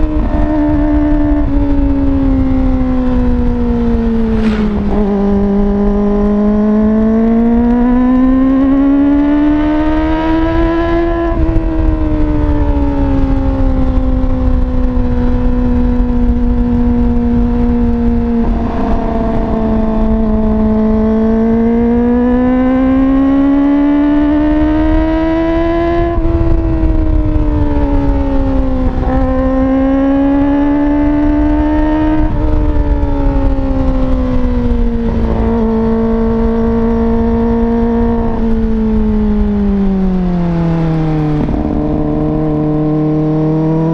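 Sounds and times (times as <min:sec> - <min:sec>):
motorcycle engine revving loud: 0:00.0 - 0:43.9.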